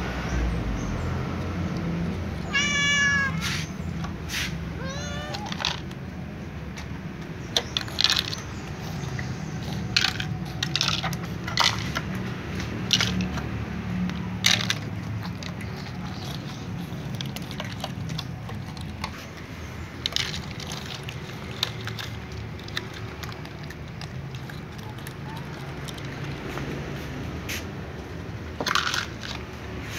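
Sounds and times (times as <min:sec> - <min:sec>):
cats crunching dry kibble: 0:01.5 - 0:29.9.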